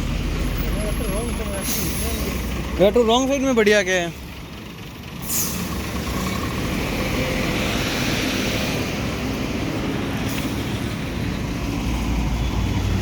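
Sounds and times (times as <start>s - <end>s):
heavy vehicle engines: 0.0s - 13.0s
tyre and road noise: 0.0s - 13.0s.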